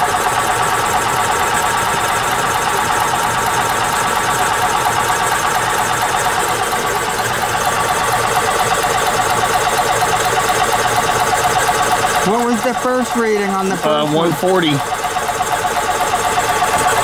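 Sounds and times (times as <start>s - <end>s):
engine cranking on starter: 0.0s - 17.0s.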